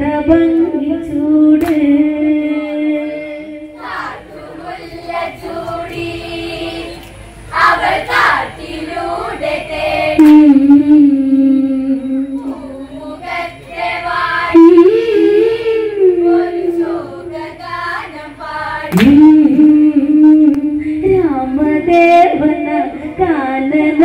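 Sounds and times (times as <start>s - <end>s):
women singing over loudspeakers: 0.0s - 24.0s.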